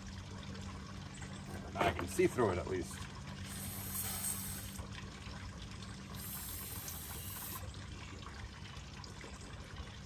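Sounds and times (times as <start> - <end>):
liquid trickling: 0.0 - 10.0
low steady hum: 0.0 - 10.0.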